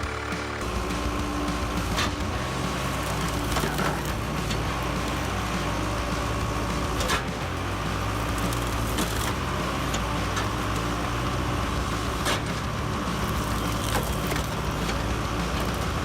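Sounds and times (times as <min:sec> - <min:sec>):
log splitter engine running: 0:00.0 - 0:16.0.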